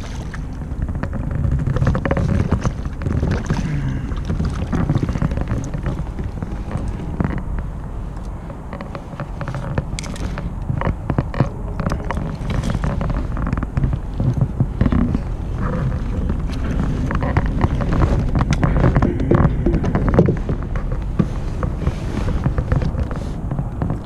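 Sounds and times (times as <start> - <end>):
light clicks and knocks: 0.0 - 24.0
wind buffeting microphone: 0.0 - 24.0.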